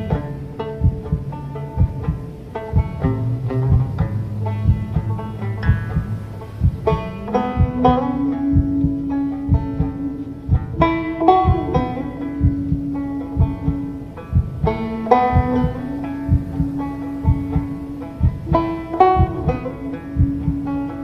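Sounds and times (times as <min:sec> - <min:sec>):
banjo picking: 0:00.0 - 0:21.0
held low tone: 0:00.0 - 0:21.0.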